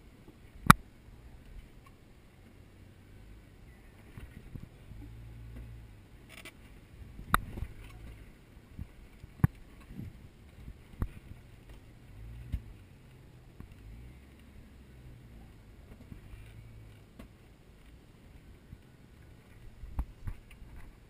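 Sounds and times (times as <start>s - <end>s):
car engine running low: 0.0s - 21.0s.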